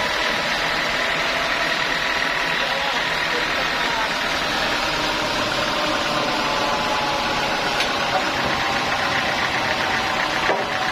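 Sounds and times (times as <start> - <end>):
sawmill machinery hum: 0.0 - 10.9.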